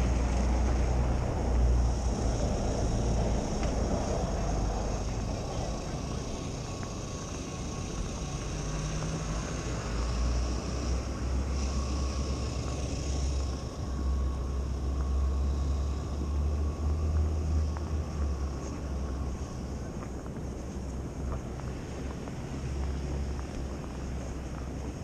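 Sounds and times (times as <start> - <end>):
city street low rumble: 0.0 - 25.0.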